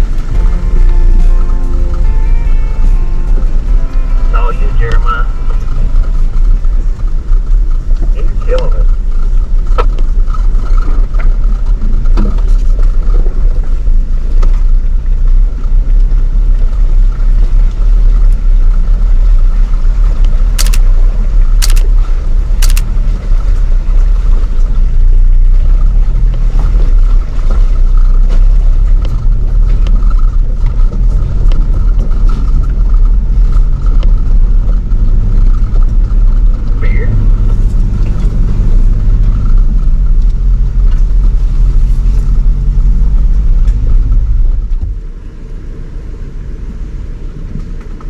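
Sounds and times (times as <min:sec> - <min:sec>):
off-road vehicle rumbling: 0:00.0 - 0:48.0.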